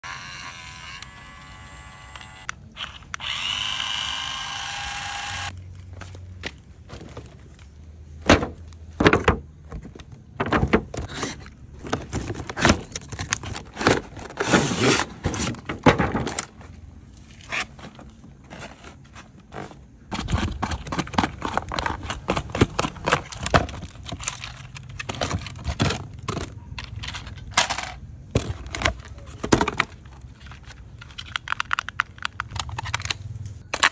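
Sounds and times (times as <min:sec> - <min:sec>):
cardboard and plastic packaging rustling: 0:05.8 - 0:33.9.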